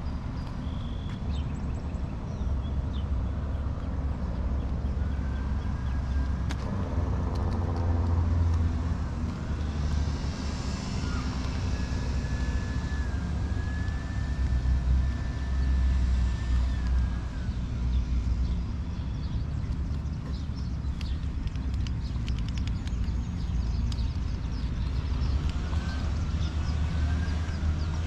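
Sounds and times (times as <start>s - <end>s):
motor vehicle passing: 3.0s - 28.0s.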